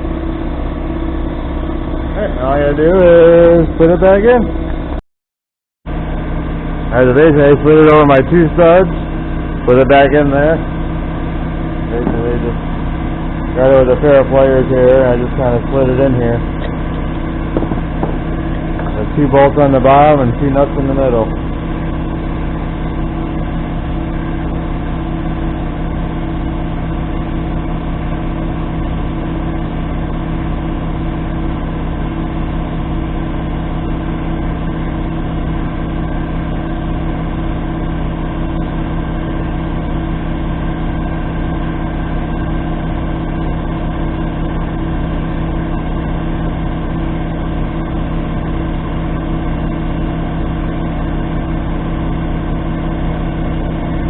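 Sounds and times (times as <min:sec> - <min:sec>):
engine idling: 0:00.0 - 0:05.0, 0:05.9 - 0:54.0.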